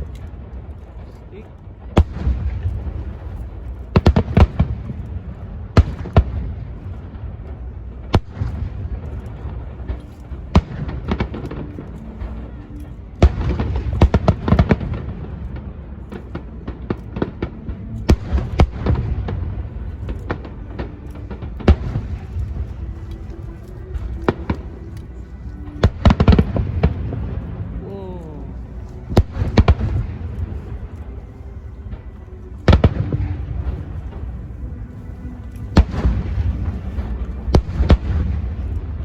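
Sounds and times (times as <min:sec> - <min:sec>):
continuous low rumble: 0:00.0 - 0:39.0.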